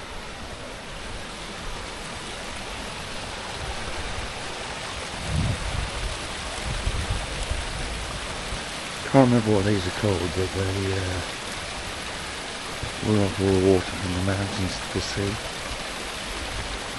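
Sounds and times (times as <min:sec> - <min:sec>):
water rushing in a channel: 0:00.0 - 0:16.9.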